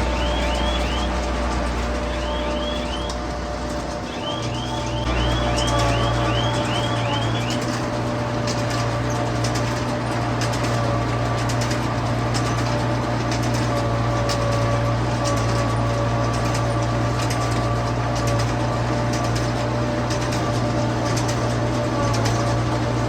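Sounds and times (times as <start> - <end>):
farm machinery engine drone: 0.0 - 23.0
light ticking and rattling: 0.0 - 23.0
machine whine: 0.0 - 23.0.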